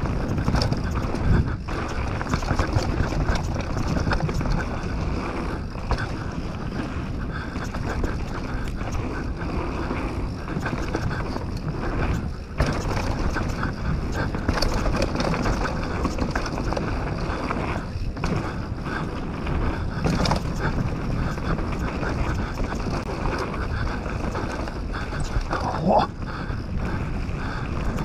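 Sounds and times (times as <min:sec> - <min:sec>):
bike rattling and clicking: 0:00.0 - 0:28.0
bike tyres on dirt trail: 0:00.0 - 0:28.0
wind on microphone: 0:00.0 - 0:28.0.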